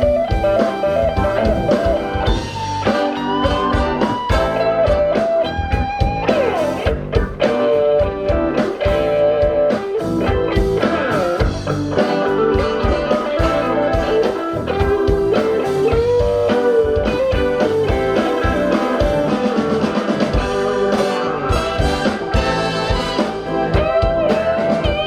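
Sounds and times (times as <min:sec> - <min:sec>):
blues-rock band playing: 0:00.0 - 0:25.0
drum kit beat: 0:00.0 - 0:25.0
electric guitar bending notes: 0:00.0 - 0:25.0.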